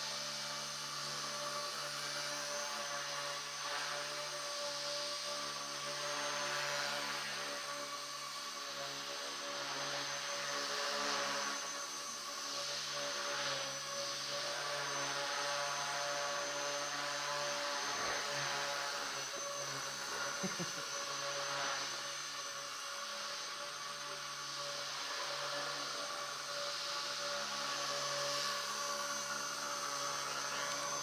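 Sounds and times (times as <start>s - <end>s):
rc helicopter motor whine: 0.0s - 31.0s.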